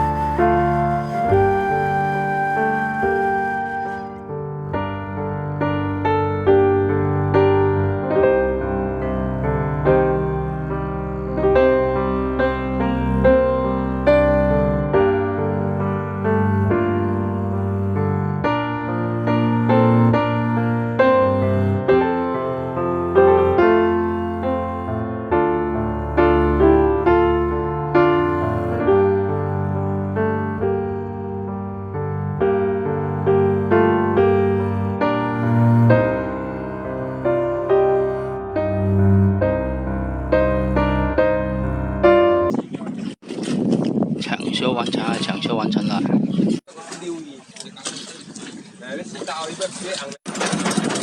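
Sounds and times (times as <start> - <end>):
slow piano music: 0.0 - 42.5.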